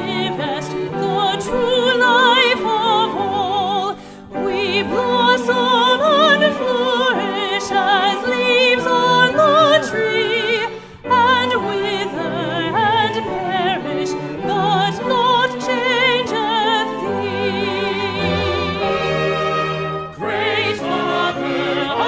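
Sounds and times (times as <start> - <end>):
choir singing a hymn: 0.0 - 22.0.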